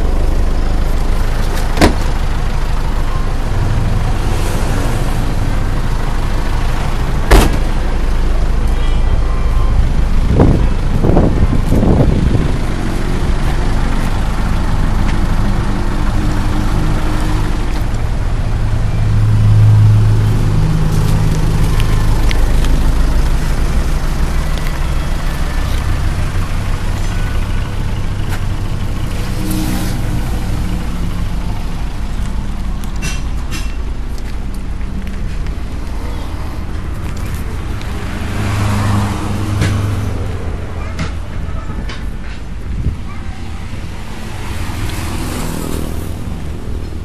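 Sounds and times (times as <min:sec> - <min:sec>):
large engine humming: 0:00.0 - 0:47.0.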